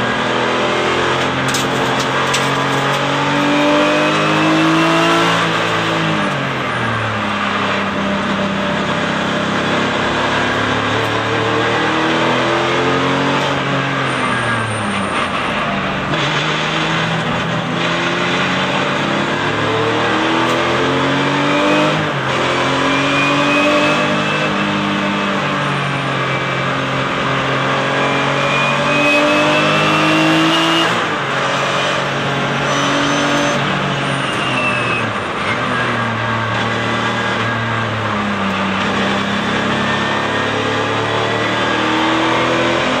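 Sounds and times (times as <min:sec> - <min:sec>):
race car engine accelerating: 0:00.0 - 0:43.0.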